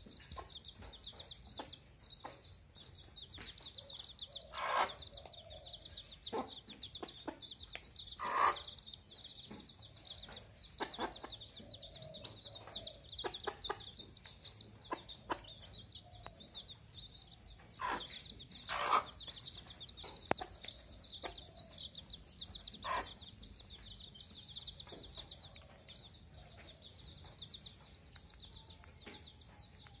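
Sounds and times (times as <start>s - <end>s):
chicks peeping: 0.0s - 30.0s
hen clucking: 0.1s - 29.4s.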